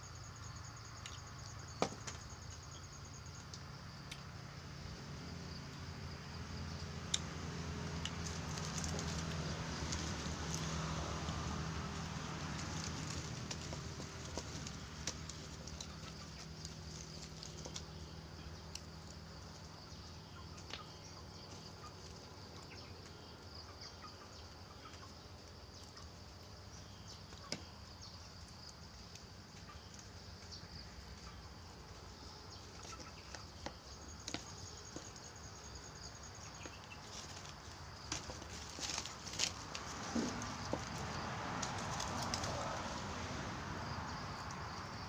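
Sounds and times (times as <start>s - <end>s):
faint steady outdoor hiss: 0.0s - 45.0s.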